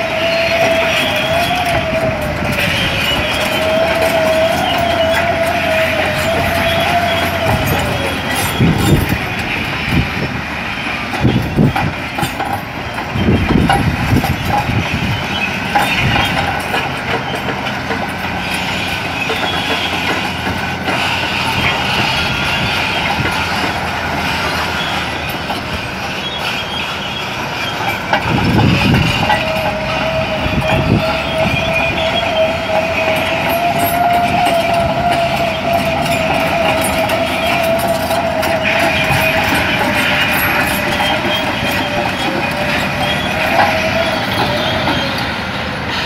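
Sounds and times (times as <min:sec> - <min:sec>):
clanking steel tracks: 0:00.0 - 0:46.0
diesel dozer engine under load: 0:00.0 - 0:46.0.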